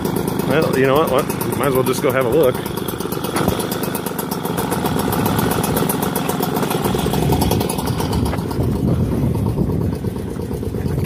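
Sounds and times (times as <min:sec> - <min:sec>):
small engine idling with ticking: 0:00.0 - 0:11.0.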